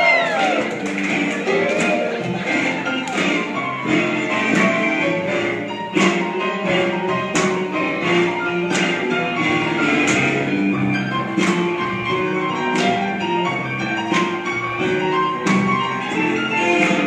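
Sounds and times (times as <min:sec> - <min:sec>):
slow blues music: 0:00.1 - 0:17.0.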